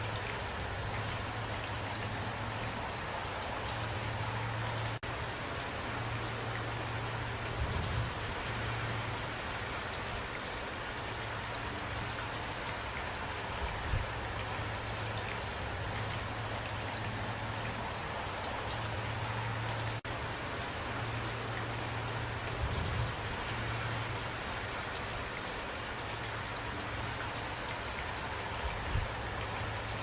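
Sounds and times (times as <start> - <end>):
rain drops pattering: 0.0 - 30.0.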